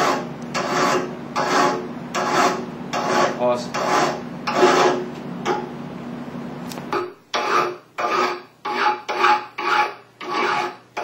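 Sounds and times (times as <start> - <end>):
rhythmic rasping strokes: 0.0 - 5.6, 6.9 - 11.0.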